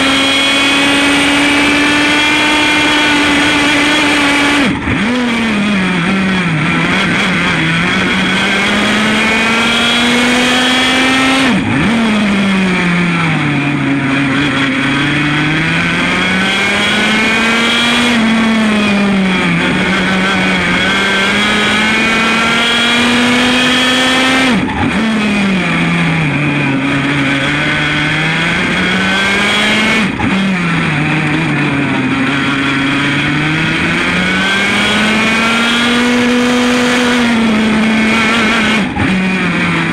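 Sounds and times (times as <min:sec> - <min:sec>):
two-stroke kart engine running hard: 0:00.0 - 0:39.9.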